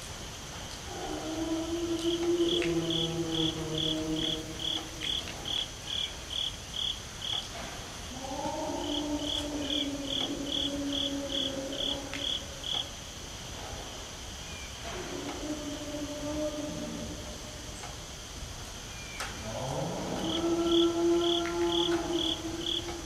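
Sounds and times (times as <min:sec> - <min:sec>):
cricket chirping: 0:00.0 - 0:23.0
low howl-like calls: 0:00.7 - 0:13.0, 0:13.8 - 0:18.0, 0:19.2 - 0:23.0.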